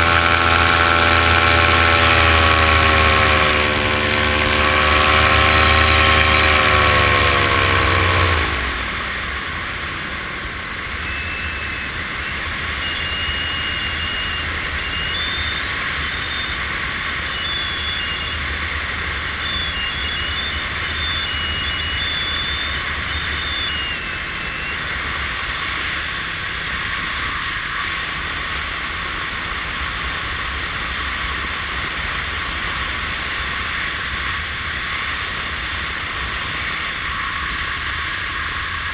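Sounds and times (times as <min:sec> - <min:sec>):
drone propellers whirring: 0:00.0 - 0:38.9.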